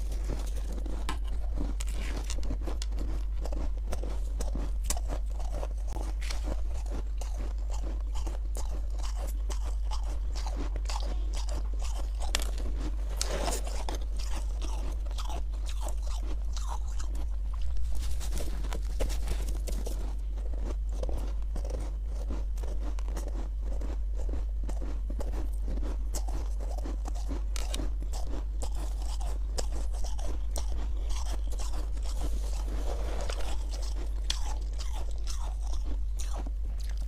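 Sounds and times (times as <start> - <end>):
frost being chewed: 0.0 - 37.0
steady low hum: 0.0 - 37.0.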